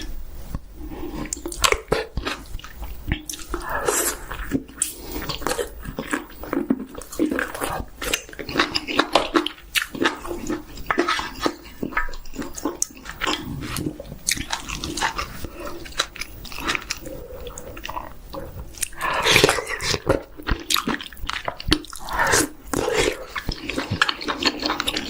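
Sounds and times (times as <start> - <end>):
chewing and biting food: 0.9 - 25.0.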